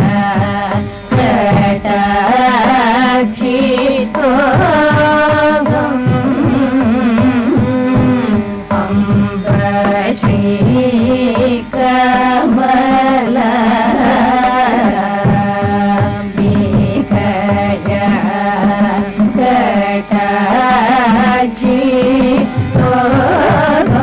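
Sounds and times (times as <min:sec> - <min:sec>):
hand-drum strokes: 0:00.0 - 0:24.0
person singing ornamented notes: 0:00.0 - 0:24.0
steady drone: 0:00.0 - 0:24.0.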